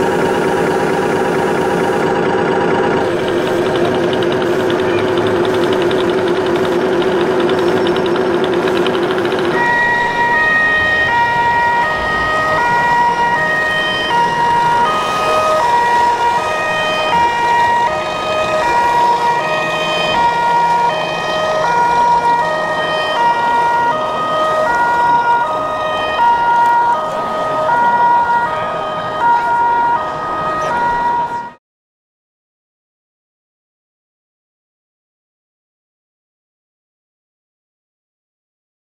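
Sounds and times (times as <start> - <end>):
engine running: 0.0 - 31.5
two-tone emergency siren: 0.0 - 31.6.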